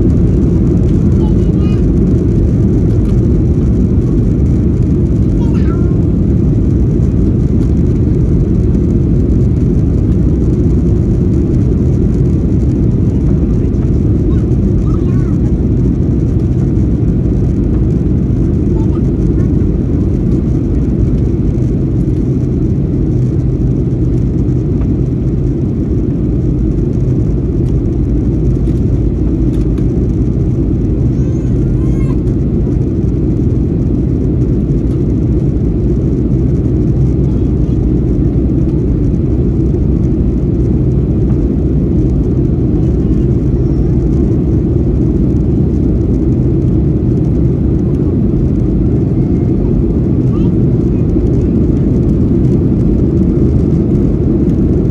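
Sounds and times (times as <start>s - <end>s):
jet engine cabin noise: 0.0s - 54.9s
steady low hums: 0.0s - 54.9s.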